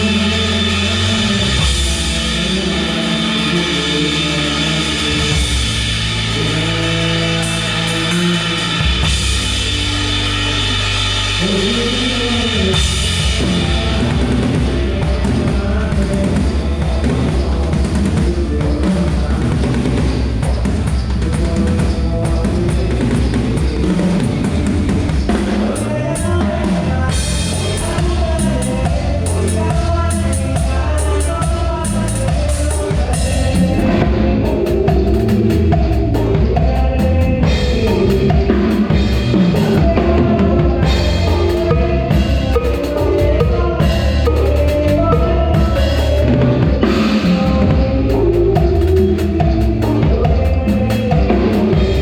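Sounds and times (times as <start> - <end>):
drum kit beat: 0.0 - 52.0
live band playing: 0.0 - 52.0.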